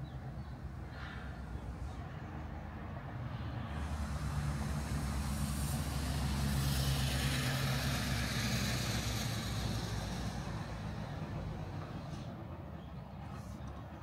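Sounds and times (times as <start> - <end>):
road hiss: 0.0 - 13.8
vehicle engine humming: 0.0 - 14.0.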